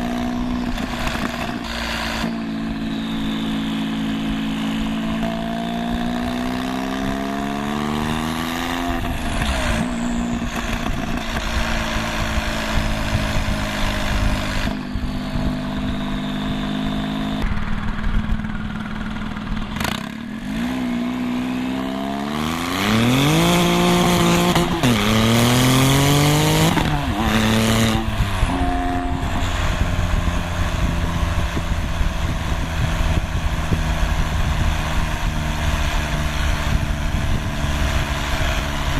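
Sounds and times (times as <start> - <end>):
car engine revving loudly: 0.0 - 17.4, 19.8 - 38.9.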